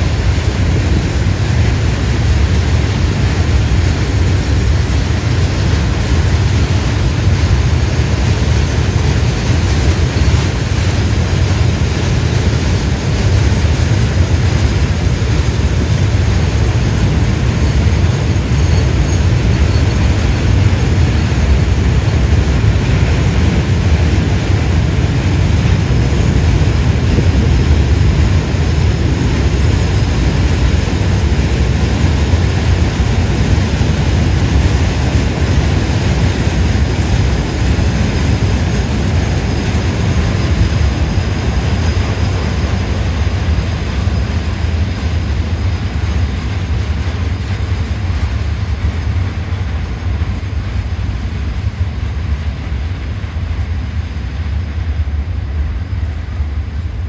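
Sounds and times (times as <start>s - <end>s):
freight wagon wheels rumbling on rail: 0.0s - 57.0s.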